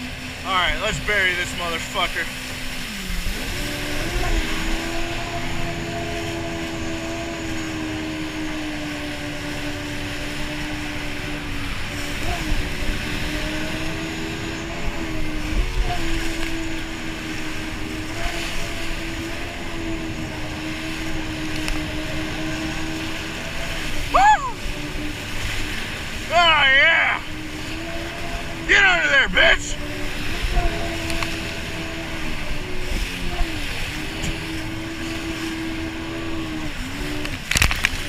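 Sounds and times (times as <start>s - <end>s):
jet ski engine drone: 0.0s - 38.0s
rushing wind: 0.0s - 38.0s.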